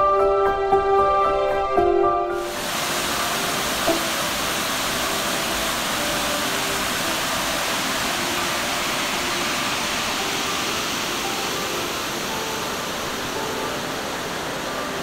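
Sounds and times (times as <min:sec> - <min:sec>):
waterfall rushing over boulders: 0:02.4 - 0:15.0.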